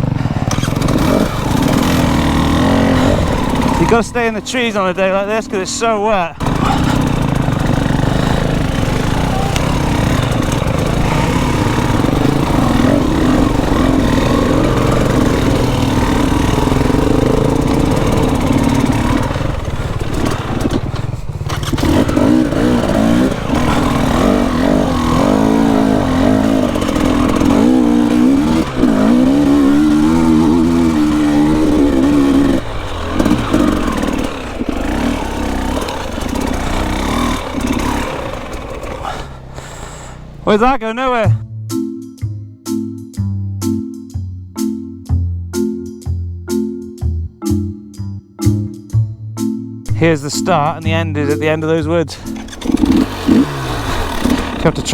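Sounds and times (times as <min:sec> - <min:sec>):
dirt bike engine revving: 0:00.0 - 0:41.4, 0:49.9 - 0:54.9.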